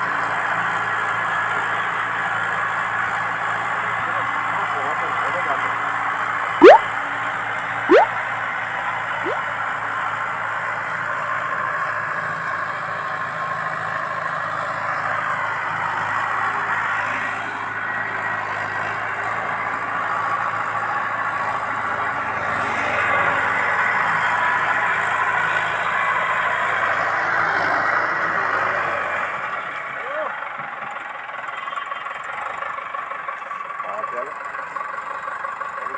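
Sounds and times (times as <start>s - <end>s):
tractor diesel engine running: 0.0s - 7.8s, 9.8s - 35.9s.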